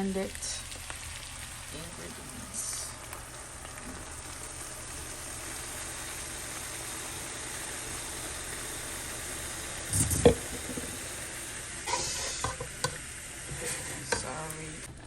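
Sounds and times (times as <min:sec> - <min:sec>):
food sizzling in hot oil: 0:00.0 - 0:14.9.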